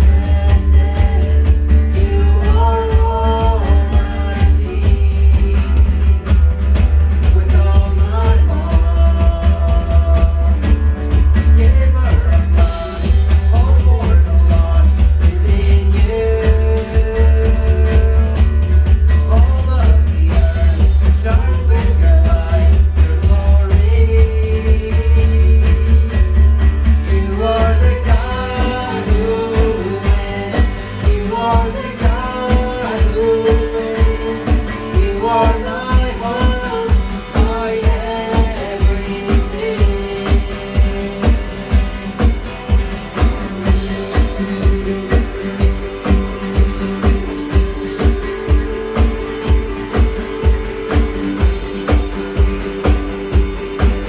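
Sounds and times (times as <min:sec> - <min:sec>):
band playing: 0:00.0 - 0:54.0
bass: 0:00.0 - 0:54.0
drums: 0:00.0 - 0:54.0
guitar: 0:00.0 - 0:54.0
person singing: 0:00.0 - 0:54.0.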